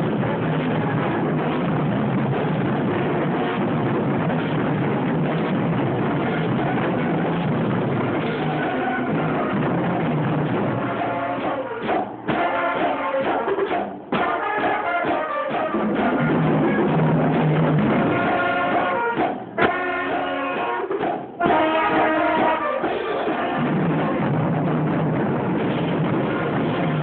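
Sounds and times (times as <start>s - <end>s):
brass band with percussion: 0.0s - 27.0s.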